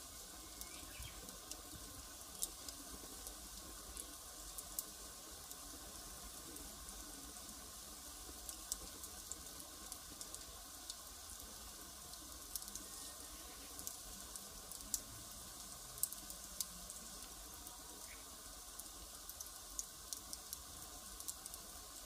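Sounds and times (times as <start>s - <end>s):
faint hiss: 0.0s - 22.0s
wood fire crackling: 0.0s - 22.0s.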